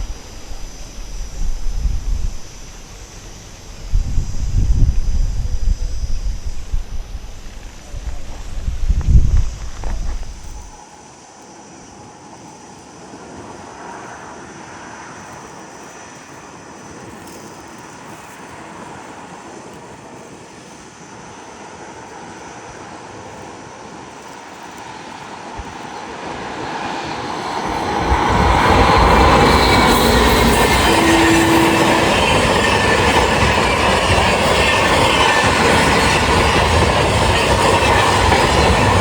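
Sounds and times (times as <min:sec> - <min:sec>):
train rumble: 0:00.0 - 0:39.0.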